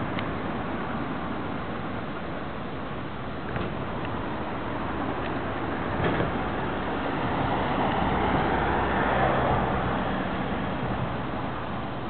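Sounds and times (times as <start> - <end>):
street traffic rumble: 0.0 - 12.0
tyre noise from passing cars: 0.0 - 12.0.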